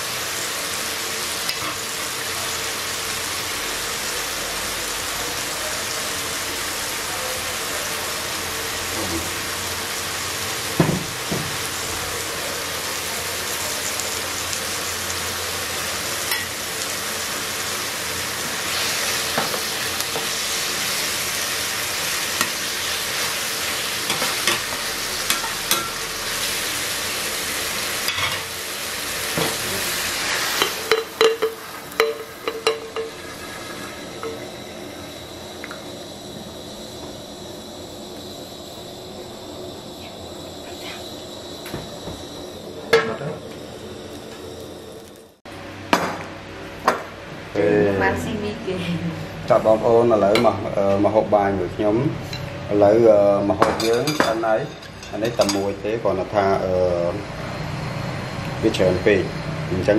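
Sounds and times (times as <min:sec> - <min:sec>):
food sizzling in oil: 0:00.0 - 0:48.6, 0:49.2 - 0:59.9.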